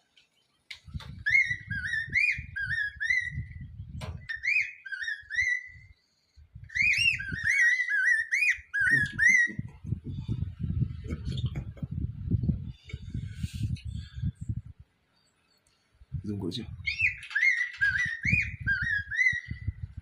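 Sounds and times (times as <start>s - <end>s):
small bird warbling song: 0.2s - 20.0s.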